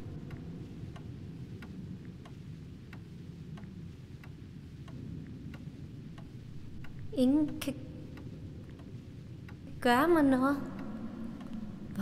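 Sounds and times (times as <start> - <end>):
low room hum: 0.0 - 12.0
clock ticking: 0.1 - 12.0.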